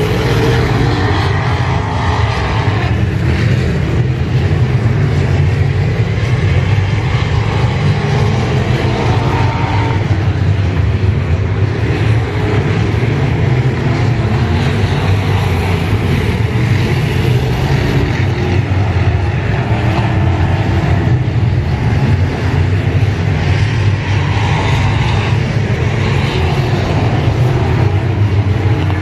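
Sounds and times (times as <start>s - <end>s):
race car engines at speed: 0.0s - 29.0s.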